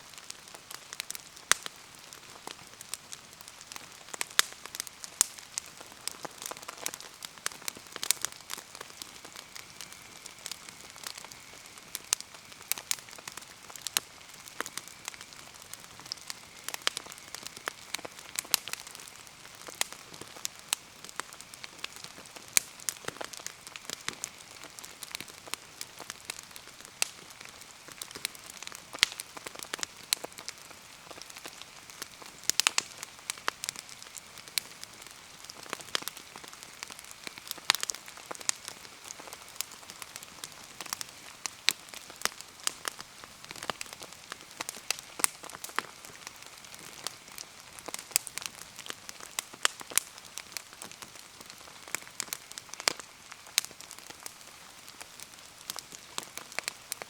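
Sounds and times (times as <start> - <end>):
steady rain falling: 0.0 - 57.0
wood bonfire crackling and popping: 0.0 - 57.0.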